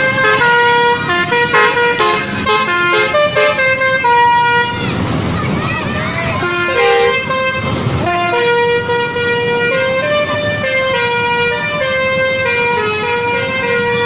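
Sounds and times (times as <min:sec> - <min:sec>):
bus musical horn playing a tune: 0:00.0 - 0:05.2, 0:05.8 - 0:14.0.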